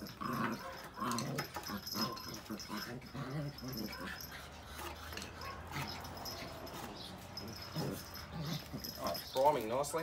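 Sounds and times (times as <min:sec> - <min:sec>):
dogs vocalizing: 0:00.0 - 0:09.8.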